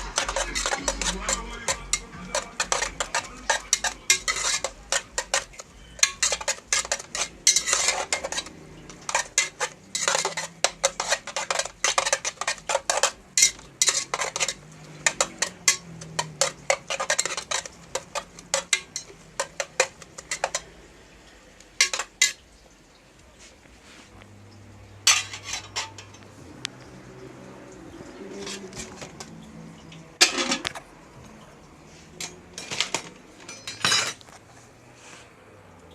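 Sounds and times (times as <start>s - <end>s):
utensil scraping and clinking pot: 0.0s - 22.6s, 24.9s - 26.4s, 27.4s - 35.3s.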